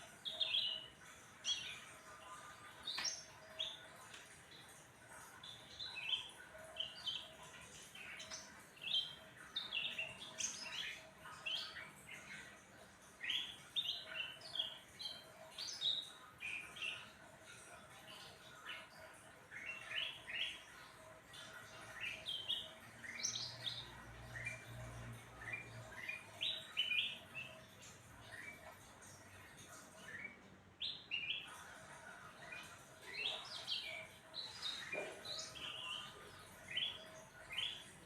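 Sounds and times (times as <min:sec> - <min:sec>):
songbird chirping phrases: 0:00.0 - 0:38.0.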